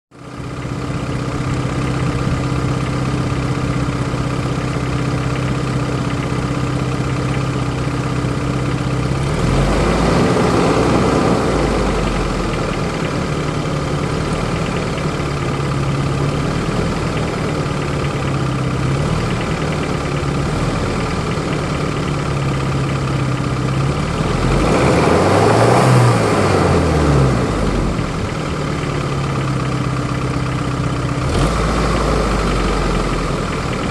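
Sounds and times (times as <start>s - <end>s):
engine idling with knocking: 0.1s - 33.9s.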